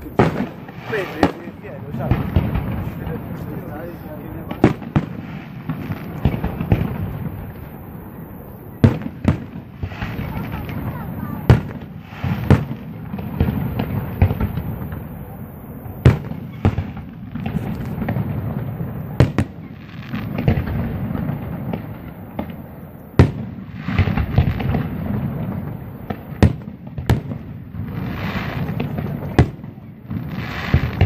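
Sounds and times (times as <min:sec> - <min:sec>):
firework shells bursting bangs: 0:00.0 - 0:08.0, 0:08.7 - 0:31.0
fireworks crackling: 0:00.0 - 0:31.0.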